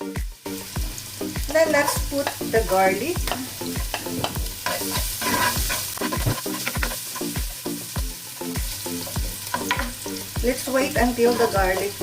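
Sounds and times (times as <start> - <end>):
background music with beat: 0.0 - 12.0
frying hiss in a pan: 0.0 - 12.0.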